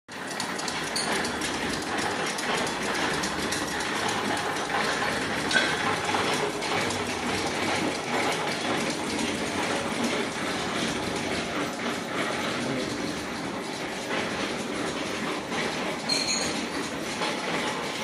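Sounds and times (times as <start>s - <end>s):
machinery clattering: 0.1s - 18.0s.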